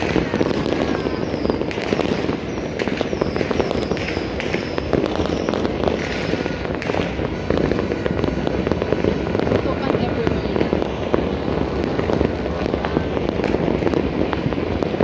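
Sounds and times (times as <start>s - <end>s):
firework whistles: 0.0s - 15.0s
fireworks crackling and banging: 0.0s - 15.0s.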